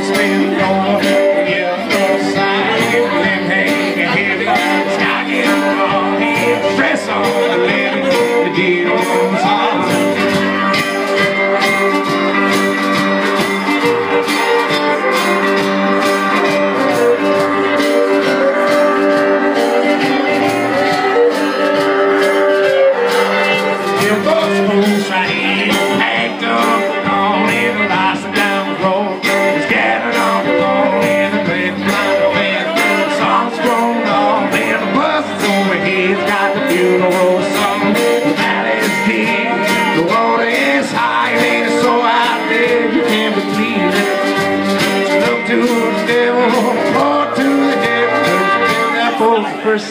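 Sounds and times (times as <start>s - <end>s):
live band playing: 0.0s - 49.9s
person singing: 0.0s - 49.9s.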